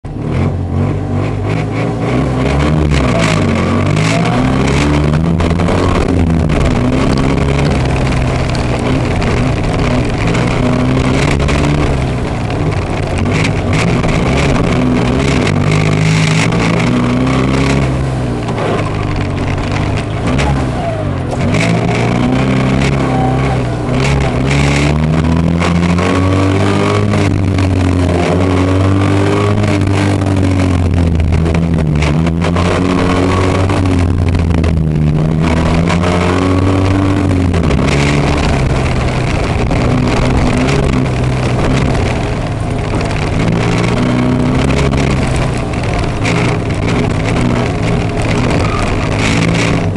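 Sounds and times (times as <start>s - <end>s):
rally car engine revving: 0.0s - 49.9s
knocks and rattles: 1.5s - 49.9s.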